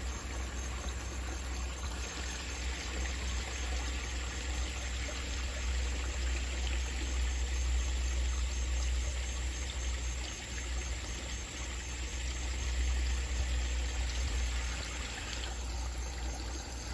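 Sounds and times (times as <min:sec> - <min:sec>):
water trickling into a pond: 0:00.0 - 0:16.9.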